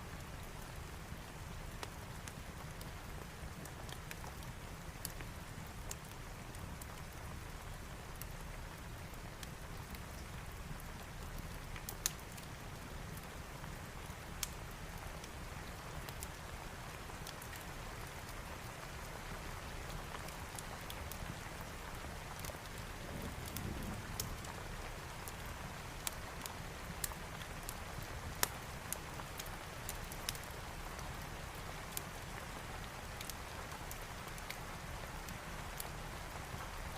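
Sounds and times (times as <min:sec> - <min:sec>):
fire crackling in a fireplace: 0:00.0 - 0:36.9
steady rain: 0:00.0 - 0:36.9.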